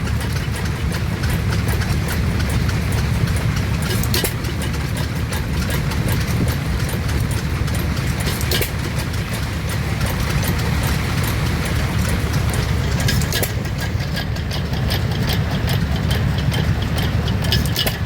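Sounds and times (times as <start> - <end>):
stationary engine idling: 0.0 - 18.0.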